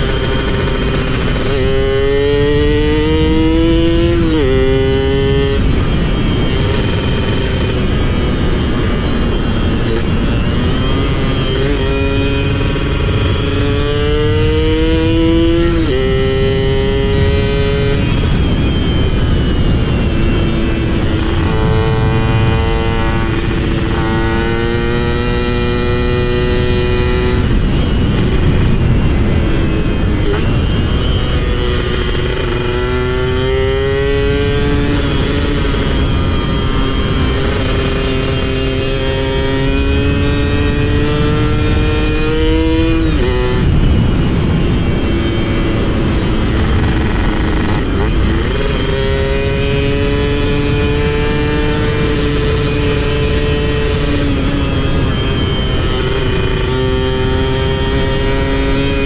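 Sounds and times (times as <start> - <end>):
two-stroke motorcycle engine revving: 0.0 - 59.0.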